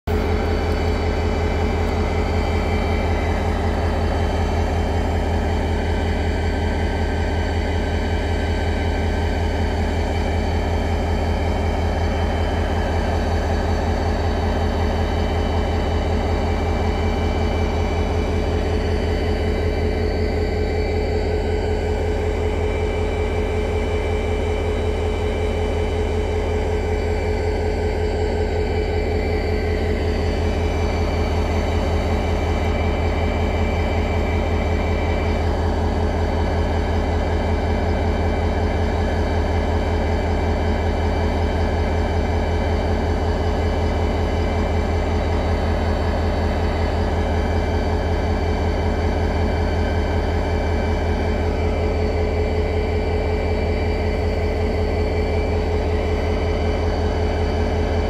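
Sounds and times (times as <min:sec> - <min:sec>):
diesel locomotive engine droning: 0:00.0 - 0:58.0
steady whine: 0:00.0 - 0:58.0.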